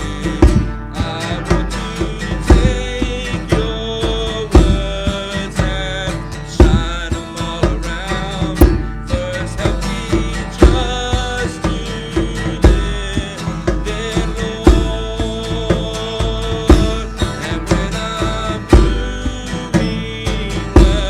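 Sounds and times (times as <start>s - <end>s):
guitar: 0.0s - 21.0s
person singing: 0.0s - 21.0s
steady beat: 0.0s - 21.0s.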